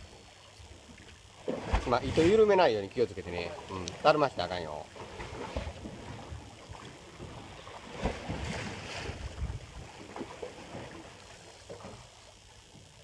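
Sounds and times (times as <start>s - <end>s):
sea water washing around hull: 0.0s - 13.0s.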